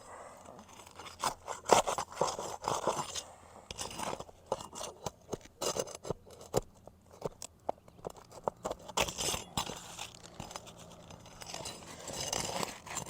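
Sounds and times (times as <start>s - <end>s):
shingles cracking and scraping: 0.6s - 13.0s.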